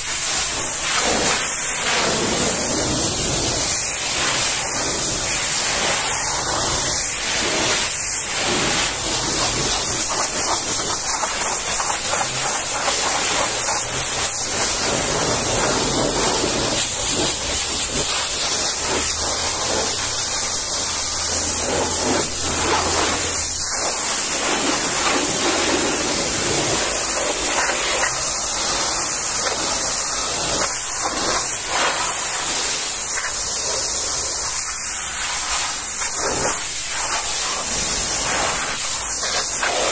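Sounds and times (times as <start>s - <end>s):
pressure washer jet on metal: 0.0s - 39.9s.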